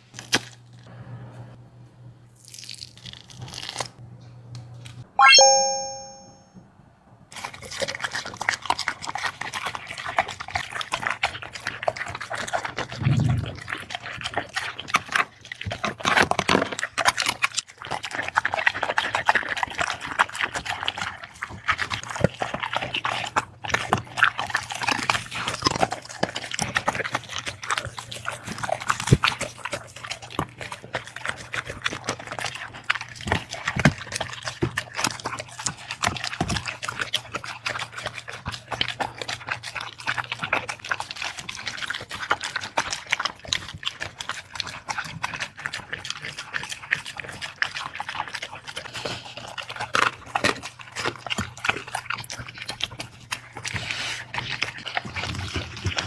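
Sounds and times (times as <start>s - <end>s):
dog chewing noisily: 7.3s - 56.0s.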